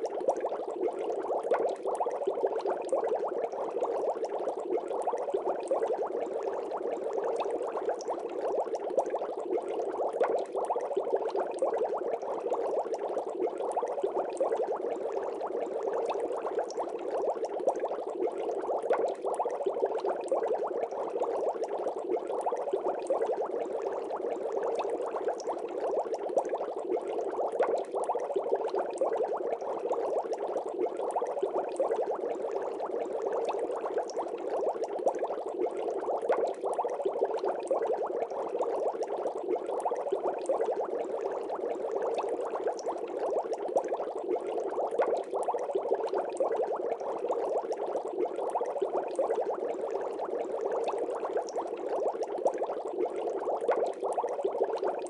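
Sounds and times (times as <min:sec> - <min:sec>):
aquarium water bubbling: 0:00.0 - 0:55.0.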